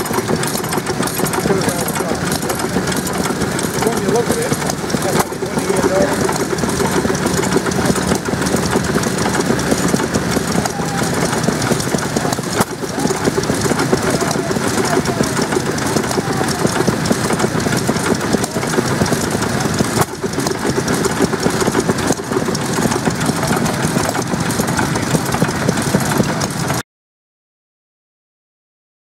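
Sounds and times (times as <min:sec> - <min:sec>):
stationary petrol engine running: 0:00.0 - 0:26.8.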